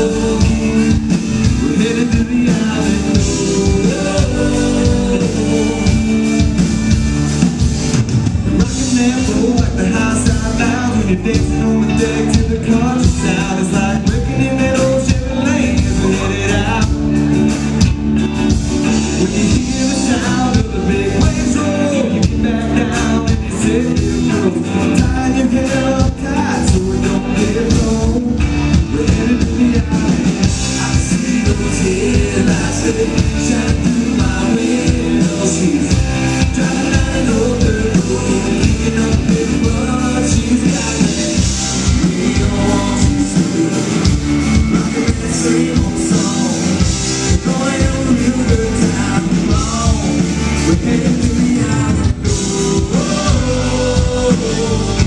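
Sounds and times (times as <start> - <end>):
man singing: 0.0 - 7.7, 8.4 - 17.9, 18.7 - 55.0
rock band playing live: 0.0 - 55.0.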